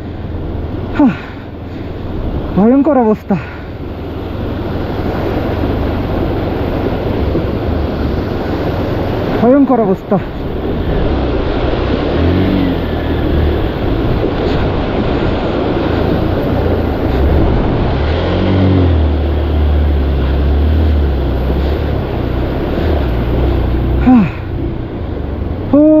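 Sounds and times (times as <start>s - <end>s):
motorcycle engine revving: 0.0s - 26.0s
water rushing and splashing: 0.0s - 26.0s.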